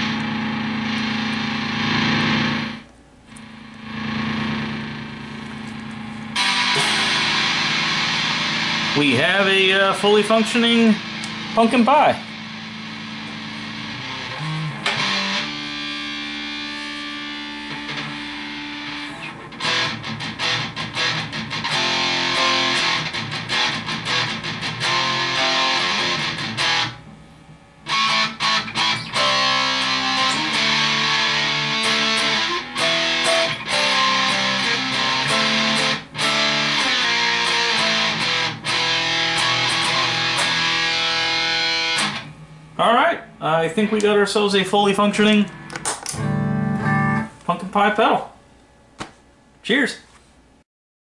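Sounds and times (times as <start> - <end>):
distorted fuzz electric guitar: 0.0 - 47.4.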